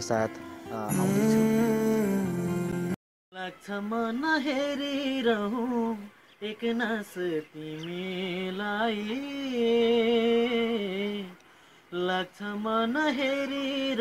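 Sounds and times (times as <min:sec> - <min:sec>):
man singing unaccompanied: 0:00.6 - 0:14.0.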